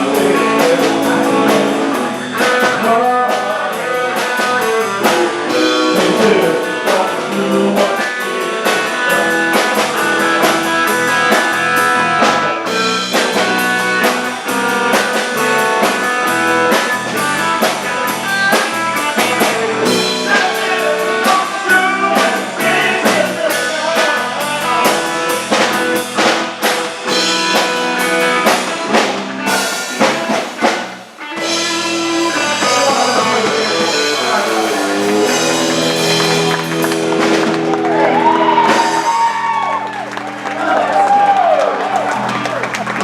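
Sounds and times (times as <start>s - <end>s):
drum kit beat: 0.0s - 42.0s
rock band playing: 0.0s - 43.0s.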